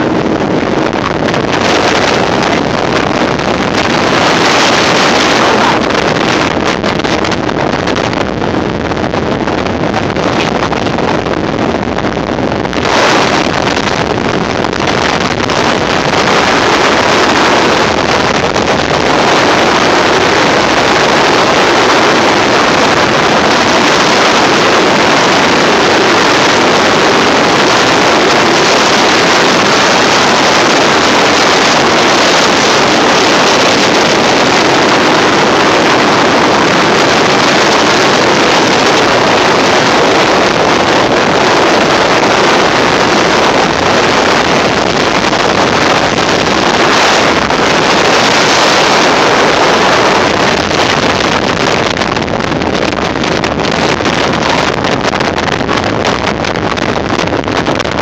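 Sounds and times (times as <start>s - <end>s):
boat engine: 0.0s - 58.0s
water rushing: 0.0s - 58.0s
wind on microphone: 0.0s - 58.0s.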